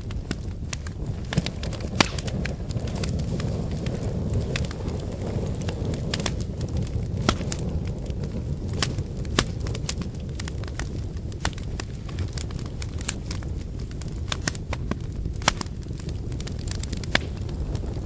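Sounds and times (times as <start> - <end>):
fire flame rumble: 0.0 - 18.0
firewood crackling and popping: 0.0 - 18.0.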